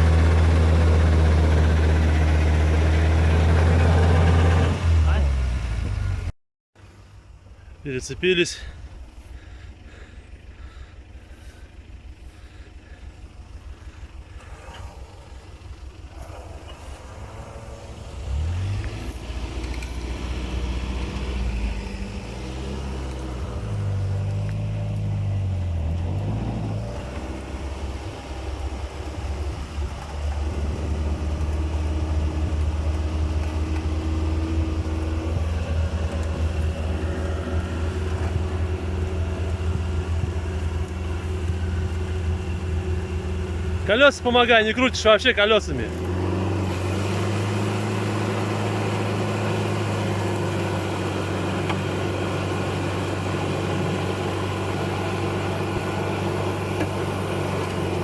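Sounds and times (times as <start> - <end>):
engine revving under load: 0.0 - 6.3, 8.6 - 58.0.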